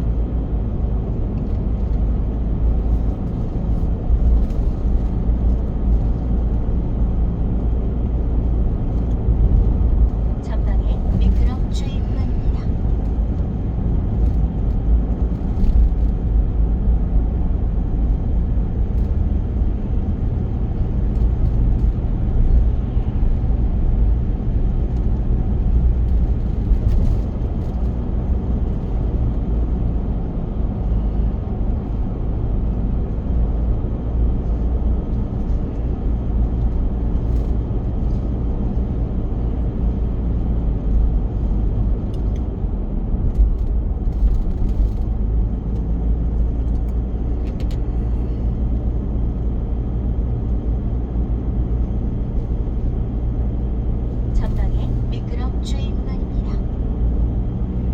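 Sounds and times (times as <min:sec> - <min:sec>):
car engine and tyre rumble: 0:00.0 - 0:57.9.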